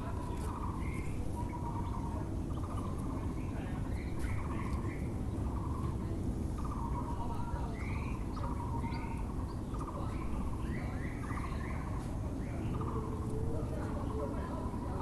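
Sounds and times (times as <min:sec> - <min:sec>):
birds with arching notes: 0:00.0 - 0:15.0
low urban rumble: 0:00.0 - 0:15.0.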